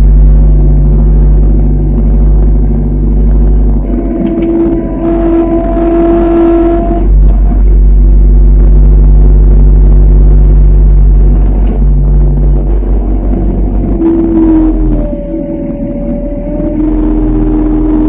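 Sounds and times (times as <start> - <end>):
heavy machinery engine rumbling: 0.0 - 18.0
high steady whine: 0.0 - 18.0.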